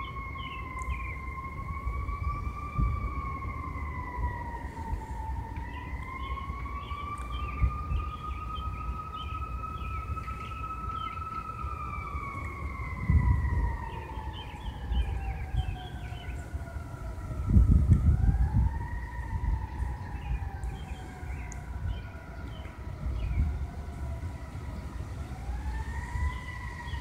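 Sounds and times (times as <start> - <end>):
distant siren wailing: 0.0 - 27.0
wind buffeting microphone: 0.0 - 27.0.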